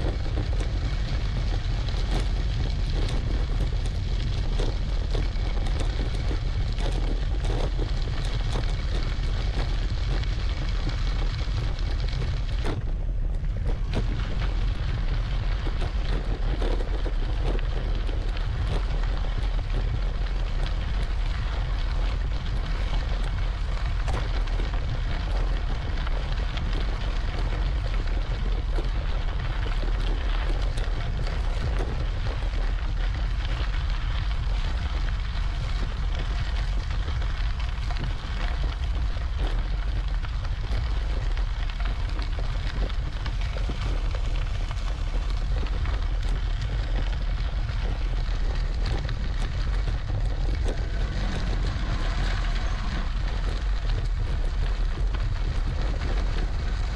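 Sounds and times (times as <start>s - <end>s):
tyre noise on road: 0.0s - 56.9s
wind buffeting microphone: 0.0s - 56.9s.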